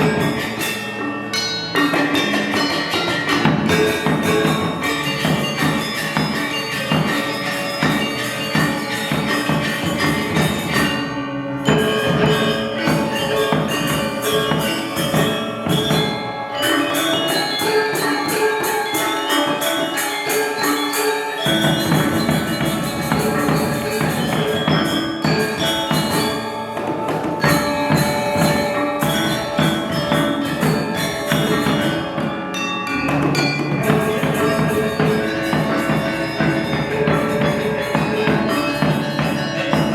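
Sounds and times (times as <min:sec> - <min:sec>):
drums: 0:00.0 - 0:39.9
metallophones ringing: 0:00.0 - 0:39.9.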